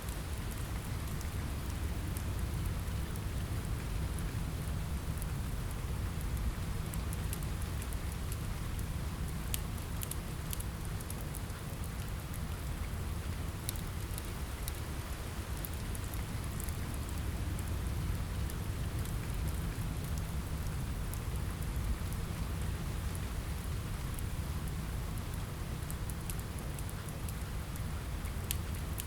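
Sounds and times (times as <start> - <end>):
rain on a window: 0.0 - 29.0
wood fire crackling: 0.1 - 29.0.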